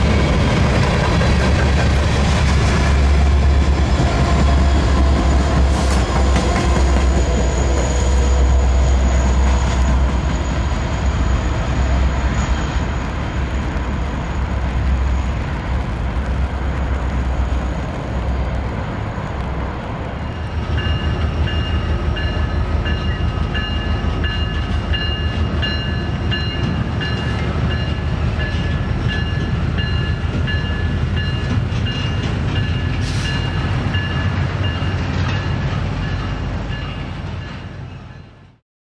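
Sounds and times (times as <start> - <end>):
freight train rumbling past: 0.0 - 38.6.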